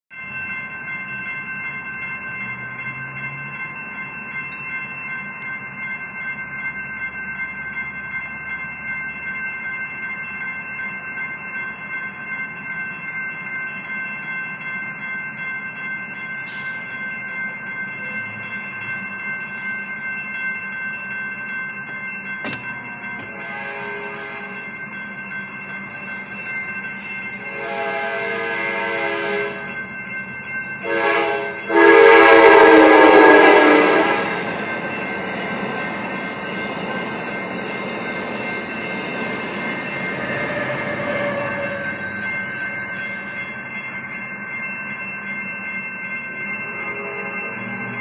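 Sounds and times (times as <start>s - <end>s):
railroad crossing bell ringing: 0.1s - 48.0s.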